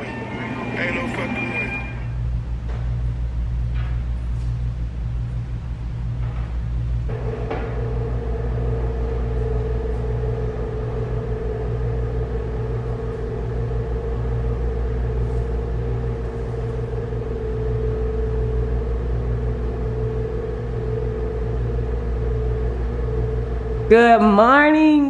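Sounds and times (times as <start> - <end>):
mechanical hum and rumble: 0.0 - 25.0.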